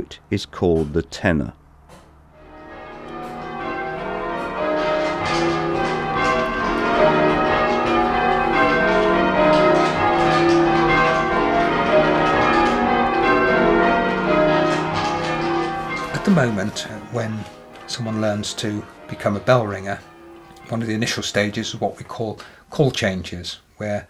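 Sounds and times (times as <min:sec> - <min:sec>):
church bells change ringing: 0:02.4 - 0:23.7.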